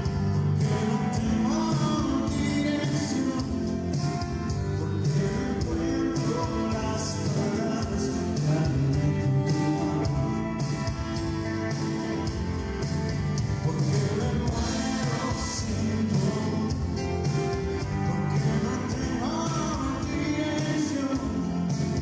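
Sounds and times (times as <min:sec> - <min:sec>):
live band with singing: 0:00.0 - 0:22.0.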